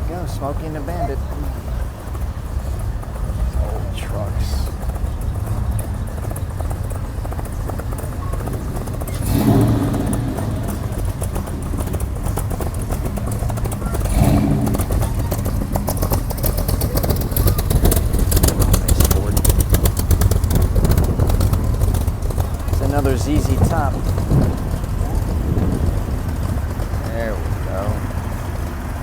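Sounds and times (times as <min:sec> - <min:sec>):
cars rumbling past slowly: 0:00.0 - 0:29.0
loud engine exhaust pulses: 0:00.0 - 0:29.0.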